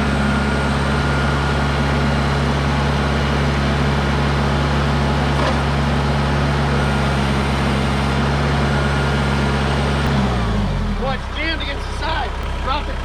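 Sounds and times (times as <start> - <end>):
engine running and winding down: 0.0 - 13.0.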